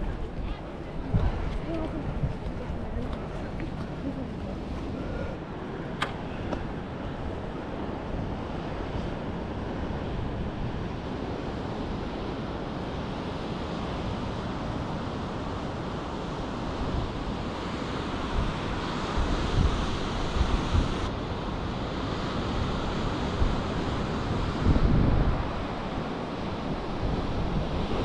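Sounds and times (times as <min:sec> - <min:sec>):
ocean surf: 0:00.0 - 0:28.0
wind buffeting microphone: 0:00.0 - 0:28.0.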